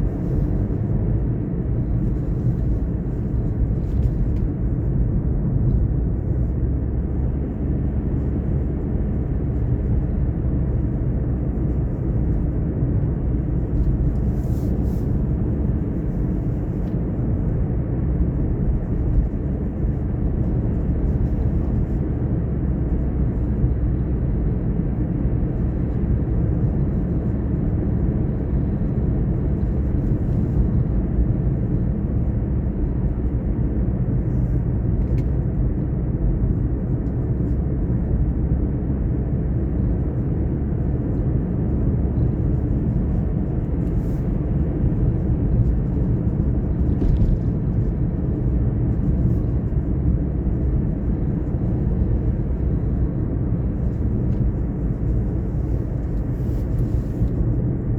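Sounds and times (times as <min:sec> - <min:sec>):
car engine and tyre drone: 0:00.0 - 0:57.9.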